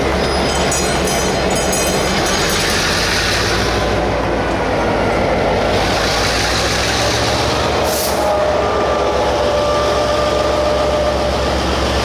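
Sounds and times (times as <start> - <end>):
locomotive humming: 0.0 - 12.0
train wheels on track: 0.0 - 12.0.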